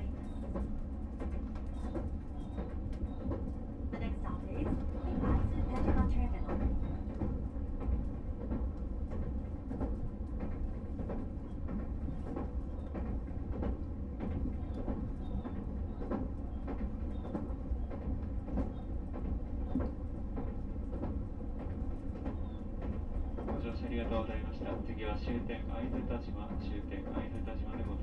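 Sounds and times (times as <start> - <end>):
train cabin low rumble: 0.0 - 28.0
wheels clicking on track: 0.0 - 28.0.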